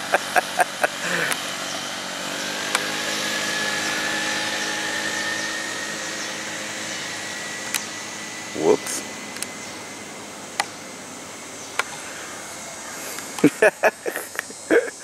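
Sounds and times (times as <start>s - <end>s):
motor scooter engine running: 0.0s - 14.9s.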